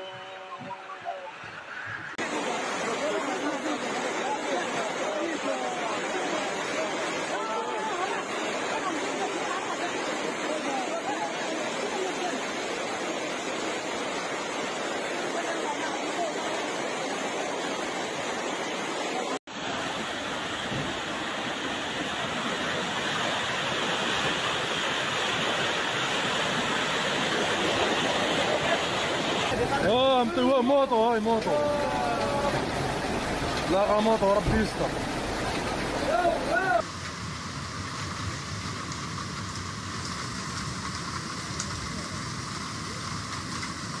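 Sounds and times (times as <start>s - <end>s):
floodwater rushing: 0.0s - 44.0s.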